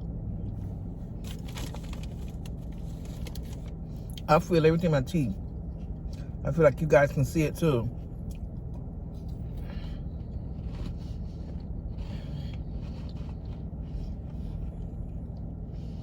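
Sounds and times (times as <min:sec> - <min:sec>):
low hum: 0:00.0 - 0:16.0
chewing a sandwich: 0:00.4 - 0:04.3, 0:05.4 - 0:06.4, 0:08.0 - 0:16.0.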